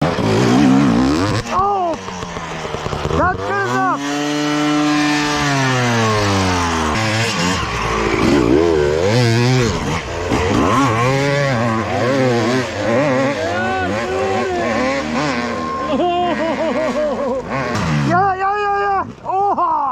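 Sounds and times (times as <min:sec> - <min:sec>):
dirt bike engine revving: 0:00.0 - 0:19.2.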